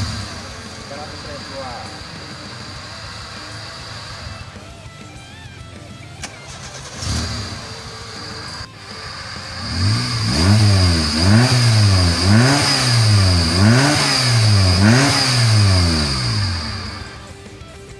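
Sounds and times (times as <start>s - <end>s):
car engine revving: 0.0s - 17.6s.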